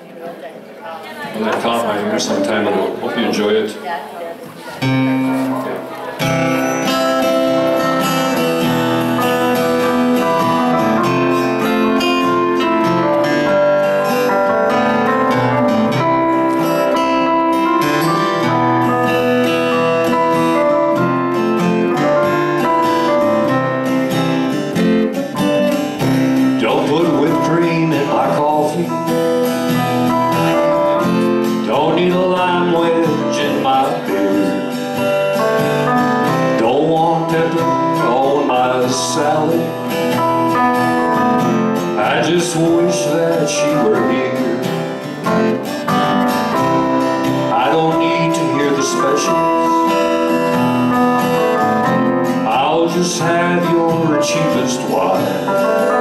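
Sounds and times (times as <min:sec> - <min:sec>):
live band playing: 0:01.1 - 0:56.0
strummed acoustic guitar: 0:01.1 - 0:56.0.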